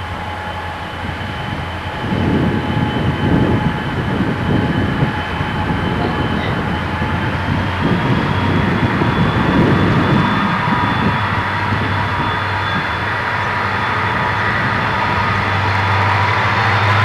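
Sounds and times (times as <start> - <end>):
diesel locomotive engines rumbling: 0.0 - 17.0.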